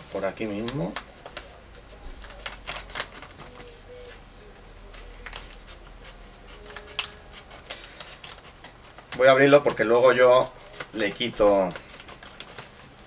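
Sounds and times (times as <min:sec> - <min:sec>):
paper mailer crinkling: 0:00.0 - 0:13.0.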